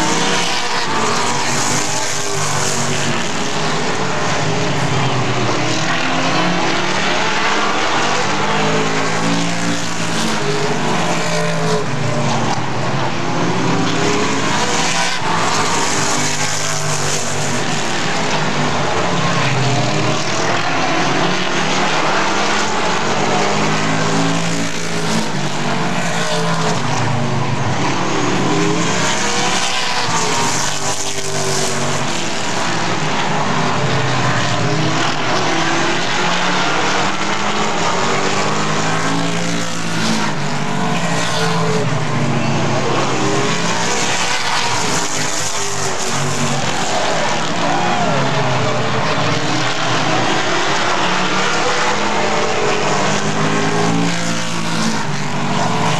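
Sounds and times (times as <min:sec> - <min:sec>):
race car engines passing: 0:00.0 - 0:55.9.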